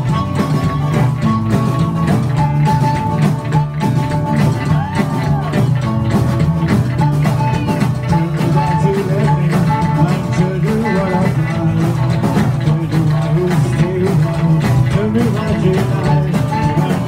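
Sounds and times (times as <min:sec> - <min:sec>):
harmonica holding long notes: 0:00.0 - 0:13.3, 0:15.4 - 0:17.0
acoustic and electric guitars: 0:00.0 - 0:17.0
steady beat: 0:00.0 - 0:17.0
upright bass: 0:00.0 - 0:17.0.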